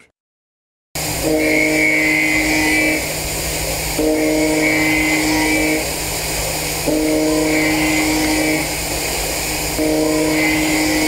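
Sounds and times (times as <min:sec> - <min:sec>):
milling cutter machining whine: 0:01.0 - 0:11.0.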